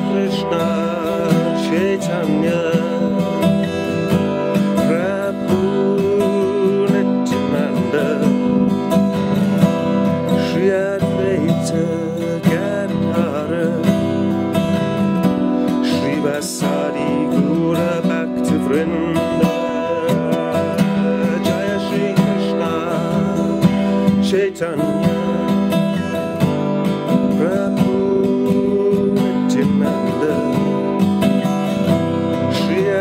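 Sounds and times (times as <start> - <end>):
acoustic guitar strumming chords: 0.0 - 33.0.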